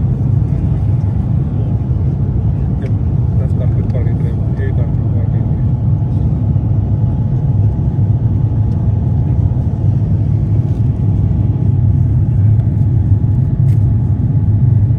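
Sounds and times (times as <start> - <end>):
aircraft cabin engine rumble: 0.0 - 14.9.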